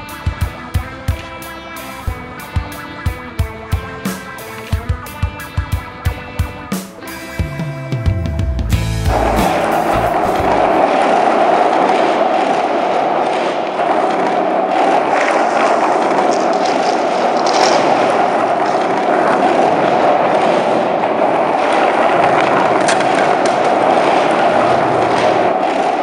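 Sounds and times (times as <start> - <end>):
skateboard wheels rolling: 0.0 - 26.0.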